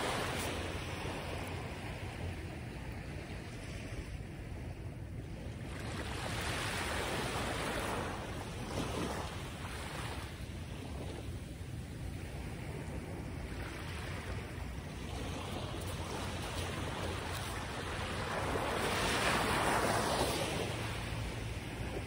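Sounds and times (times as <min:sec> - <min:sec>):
waves rushing: 0:00.0 - 0:04.6, 0:05.5 - 0:22.0
wind: 0:00.0 - 0:22.0.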